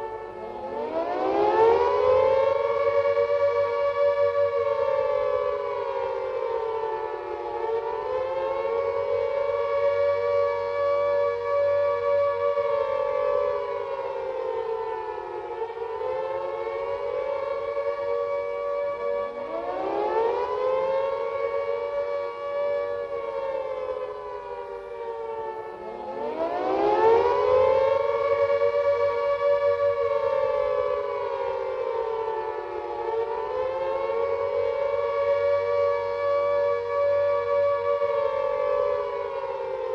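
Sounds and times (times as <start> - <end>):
civil defence sirens wailing: 0.0 - 39.9
siren rising from low pitch: 0.0 - 39.9.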